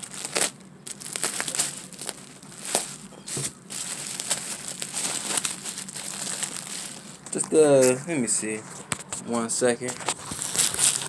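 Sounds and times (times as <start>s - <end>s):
plastic bag and bubble wrap crinkling: 0.0s - 11.0s.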